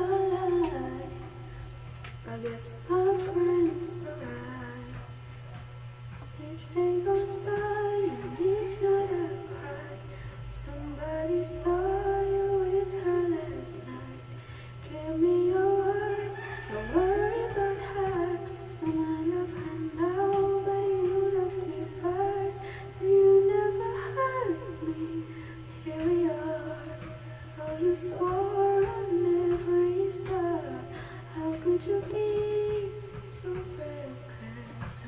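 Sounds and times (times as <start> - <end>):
woman singing slow melody: 0.0 - 35.0.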